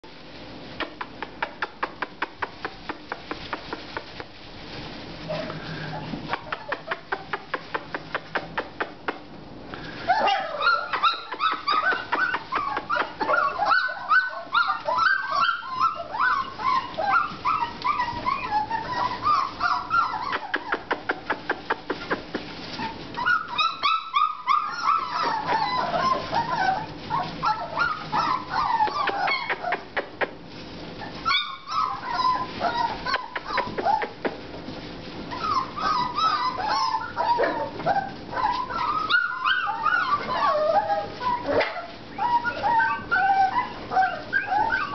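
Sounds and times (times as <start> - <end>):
puppies whimpering and yipping: 1.4 - 8.9, 9.8 - 44.9.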